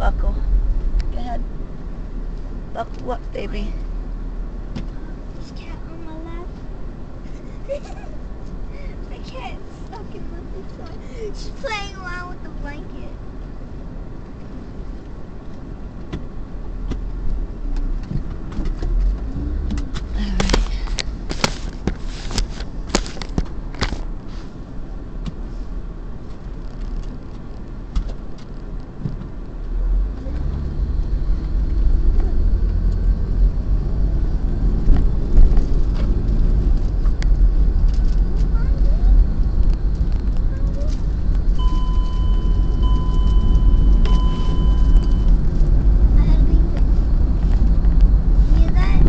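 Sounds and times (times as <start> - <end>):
car engine and road rumble: 0.0 - 49.0.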